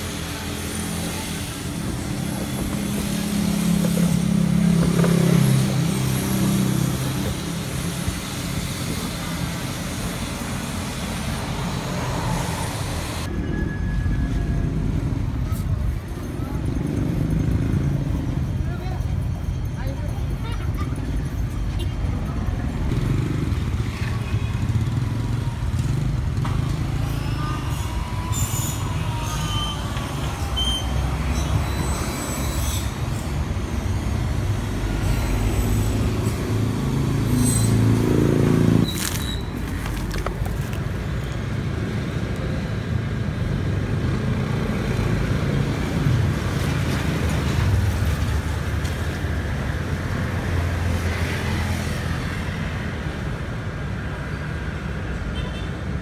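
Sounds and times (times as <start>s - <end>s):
low rumble of vehicles: 0.0s - 56.0s.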